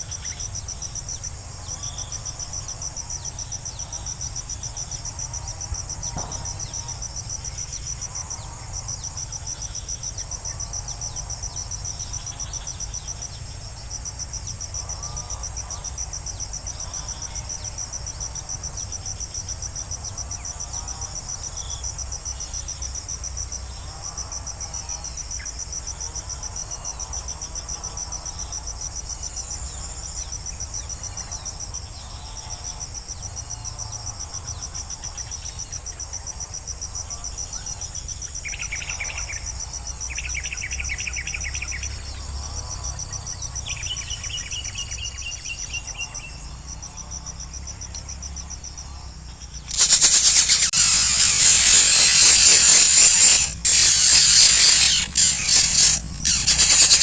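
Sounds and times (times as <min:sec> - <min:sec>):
fainter lower insect calls: 0:00.0 - 0:57.0
shrill insect chorus: 0:00.0 - 0:57.0.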